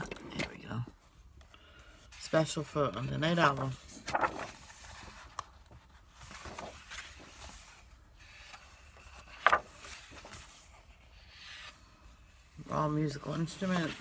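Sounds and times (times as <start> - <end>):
paper pages rustling: 2.0 - 14.0.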